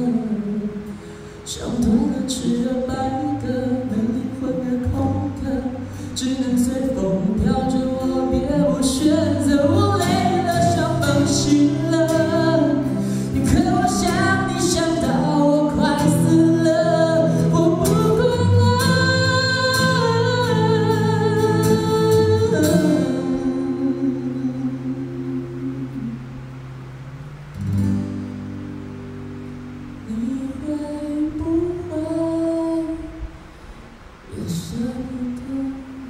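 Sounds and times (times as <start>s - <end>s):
person singing: 0.0s - 26.6s, 30.0s - 33.4s, 34.3s - 36.0s
acoustic guitar: 0.0s - 36.0s.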